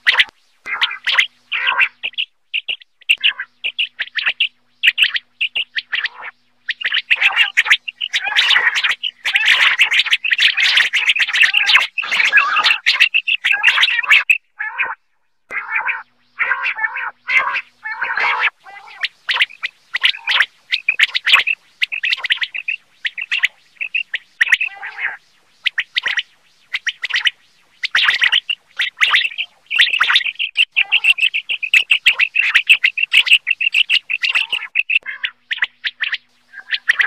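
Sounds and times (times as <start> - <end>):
quail calling: 0.0 - 37.0.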